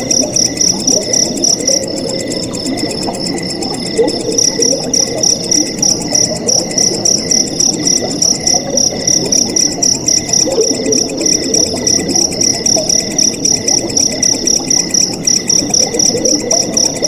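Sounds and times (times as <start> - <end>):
crickets chirping: 0.0 - 17.0
insects trilling: 0.0 - 17.0
water gurgling: 0.0 - 17.0.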